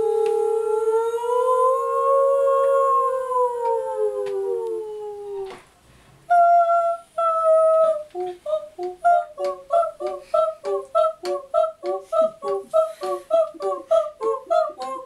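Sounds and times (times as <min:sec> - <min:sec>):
women singing experimental vocals: 0:00.0 - 0:05.7, 0:06.3 - 0:15.0.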